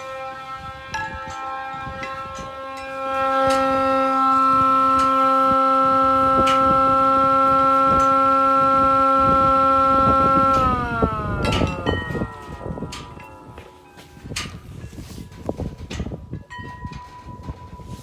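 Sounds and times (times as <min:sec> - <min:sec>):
electric siren steady tone: 0:00.0 - 0:18.0
wind buffeting microphone: 0:00.0 - 0:18.0.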